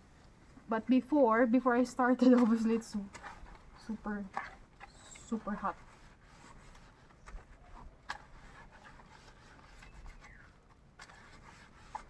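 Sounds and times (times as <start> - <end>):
faint rubbing and scraping: 1.7 - 12.0.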